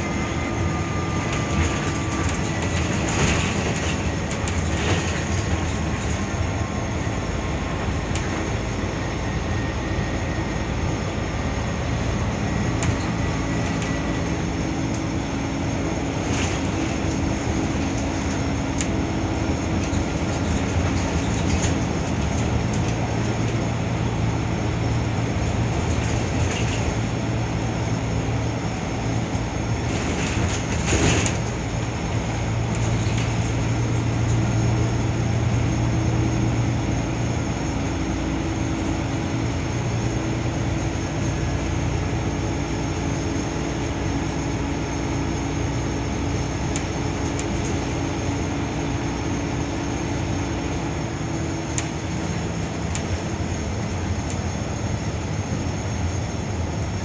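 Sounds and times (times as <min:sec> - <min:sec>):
bus engine droning: 0:00.0 - 0:57.0
road noise: 0:00.0 - 0:57.0.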